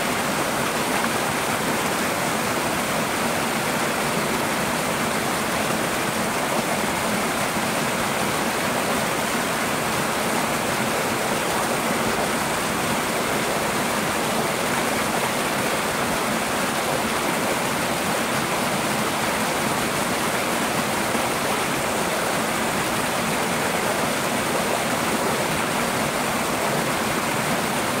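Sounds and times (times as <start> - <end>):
waterfall pouring over rocks: 0.0 - 28.0.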